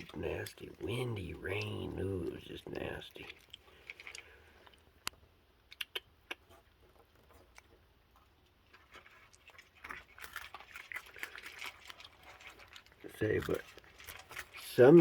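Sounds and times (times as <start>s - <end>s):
raccoons crunching cookies: 0.0s - 15.0s.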